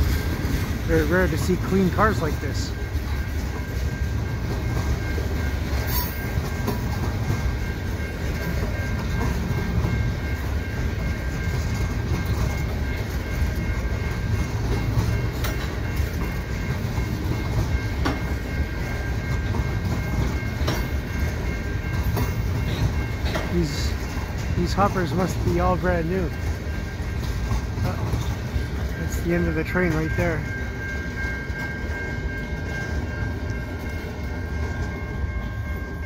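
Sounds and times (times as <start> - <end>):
steel wheels rumbling on rails: 0.0 - 36.0.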